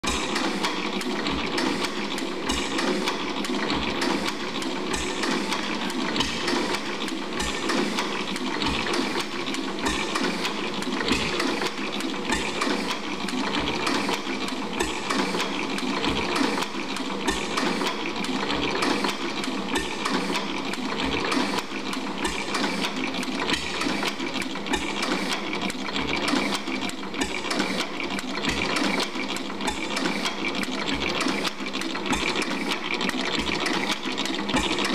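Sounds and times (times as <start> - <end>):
stationary gas engine clattering: 0.0 - 34.9.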